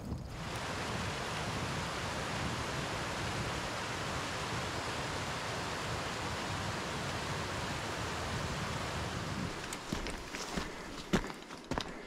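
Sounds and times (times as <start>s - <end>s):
mountain creek rushing over rocks: 0.3s - 11.7s.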